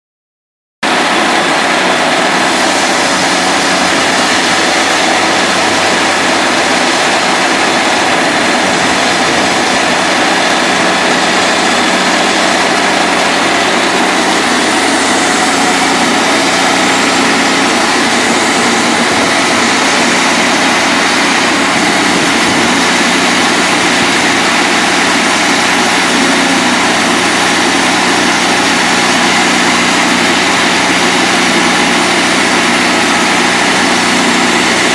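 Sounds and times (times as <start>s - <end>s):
band sawmill sawing log: 0.8s - 34.9s.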